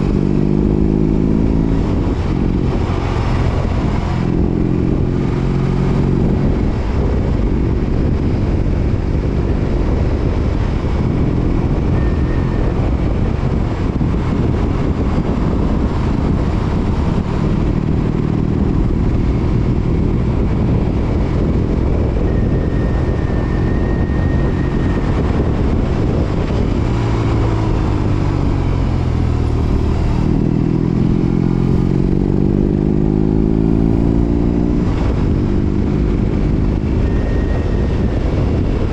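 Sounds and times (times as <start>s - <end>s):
motorcycle exhaust note: 0.0s - 38.9s.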